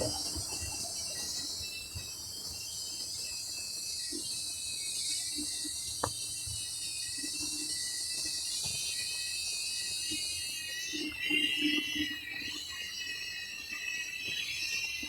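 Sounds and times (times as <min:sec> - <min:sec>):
insect chorus: 0:00.0 - 0:15.0
wavering insect call: 0:00.0 - 0:15.0.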